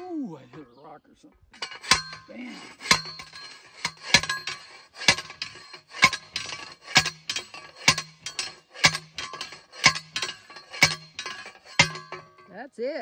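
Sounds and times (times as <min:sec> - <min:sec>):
post driver metal clanks: 0:00.4 - 0:12.6.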